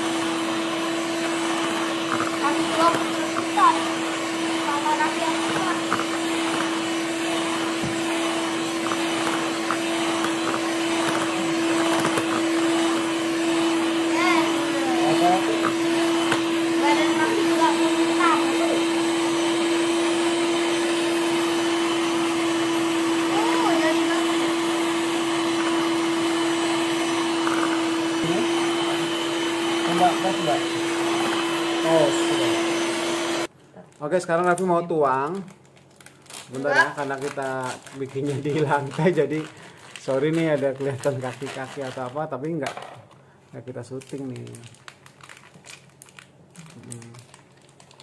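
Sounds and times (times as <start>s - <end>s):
electric hand mixer whirring: 0.0s - 33.6s, 36.6s - 42.2s.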